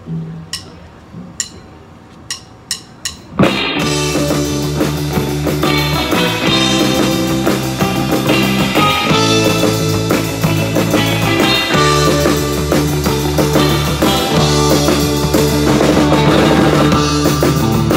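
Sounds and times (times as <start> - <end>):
drum kit: 0.0 - 17.9
electric bass: 2.7 - 17.9
twangy electric lead guitar: 3.2 - 17.9.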